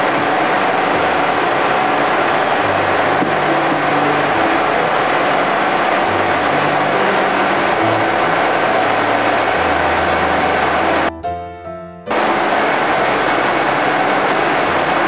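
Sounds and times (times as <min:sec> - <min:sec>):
suction boat machinery roaring: 0:00.0 - 0:11.1, 0:12.1 - 0:15.0.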